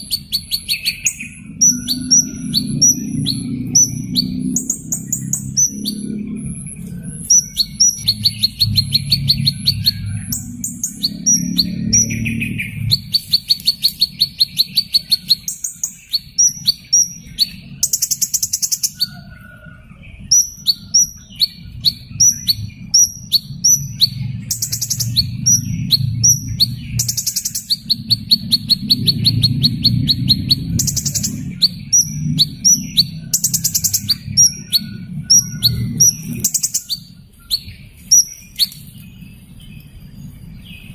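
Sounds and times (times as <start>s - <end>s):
hummingbird chirping: 0.0s - 19.4s, 20.0s - 40.9s
steady low rumble: 0.0s - 40.9s.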